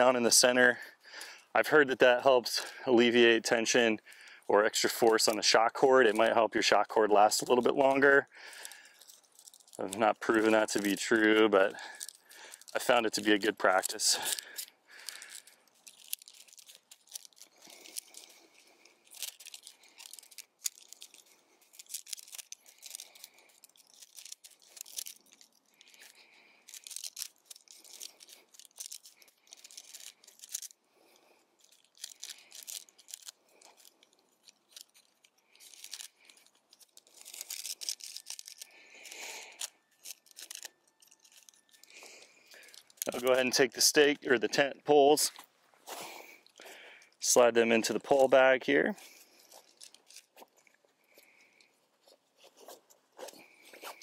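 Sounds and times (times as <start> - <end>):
rustling: 7.0 - 54.0
tent pole joints clicking: 7.1 - 54.0.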